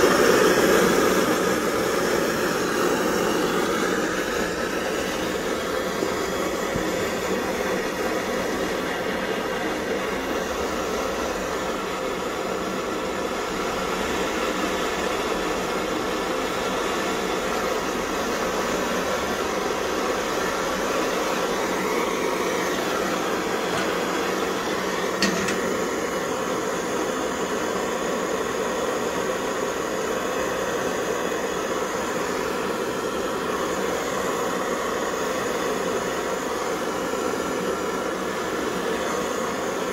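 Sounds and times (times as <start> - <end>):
stove burner flame rushing: 0.0 - 39.9.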